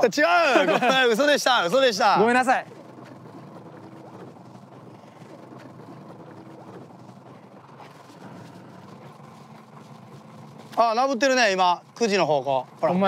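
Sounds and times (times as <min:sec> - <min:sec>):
faint engine hum: 0:00.0 - 0:13.0
sea noise: 0:00.0 - 0:13.0
wind: 0:00.0 - 0:13.0.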